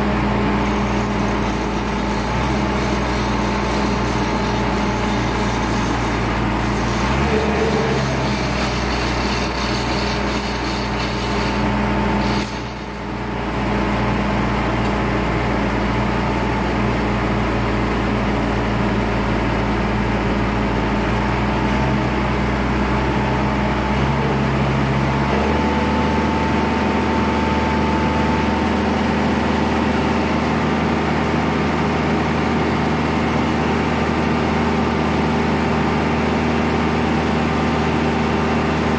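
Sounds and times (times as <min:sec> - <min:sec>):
crane engine running: 0:00.0 - 0:38.9.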